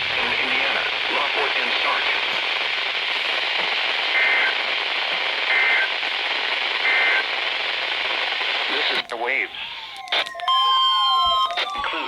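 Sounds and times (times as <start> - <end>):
radio static hiss: 0.0 - 10.3.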